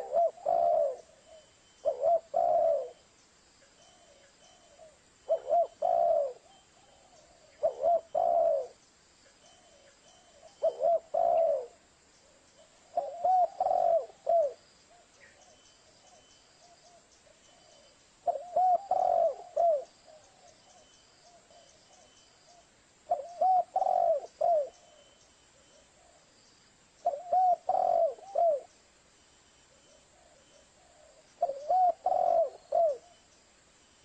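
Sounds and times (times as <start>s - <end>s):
dove cooing: 0.0s - 3.0s, 3.8s - 8.8s, 9.5s - 26.3s, 27.0s - 28.7s, 29.8s - 33.2s.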